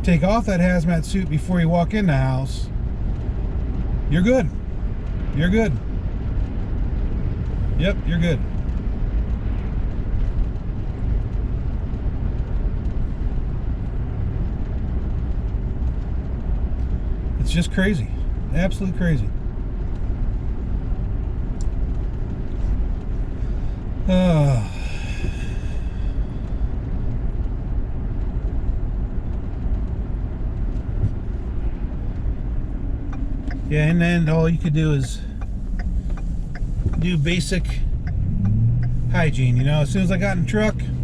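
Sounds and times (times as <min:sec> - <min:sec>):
road and engine rumble: 0:00.0 - 0:41.0.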